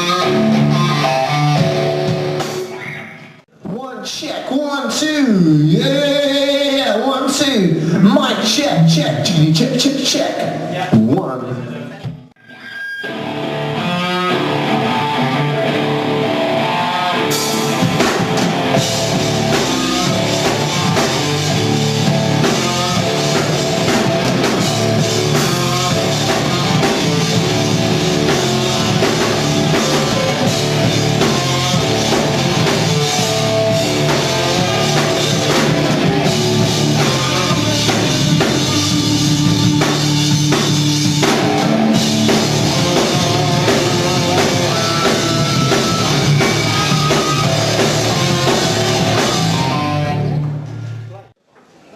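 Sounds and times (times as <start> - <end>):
rock band playing live: 0.0 - 12.3, 13.0 - 51.1.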